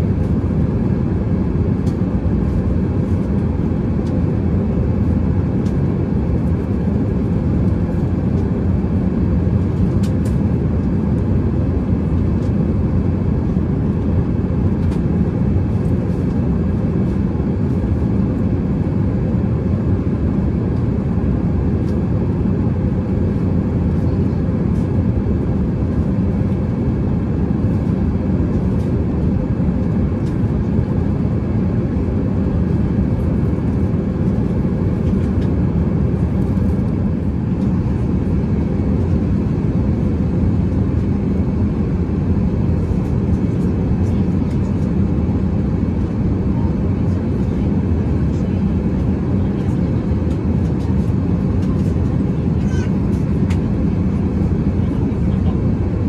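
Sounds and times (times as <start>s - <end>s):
airflow and engine rumble: 0.0s - 56.0s.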